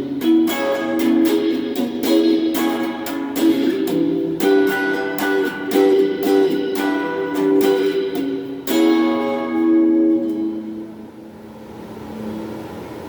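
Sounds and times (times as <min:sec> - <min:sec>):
electric guitar chords: 0:00.0 - 0:11.4
ringing guitar chord: 0:00.0 - 0:11.4.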